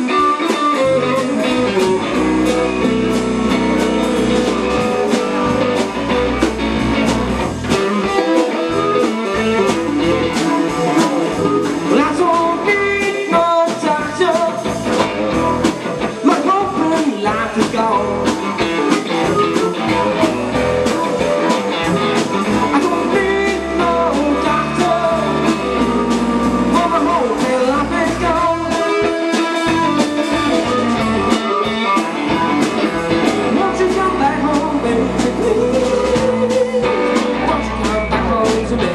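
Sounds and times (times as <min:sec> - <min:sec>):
bending guitar notes: 0:00.0 - 0:38.9
live blues-rock band: 0:00.0 - 0:38.9
steady drum beat: 0:00.0 - 0:38.9.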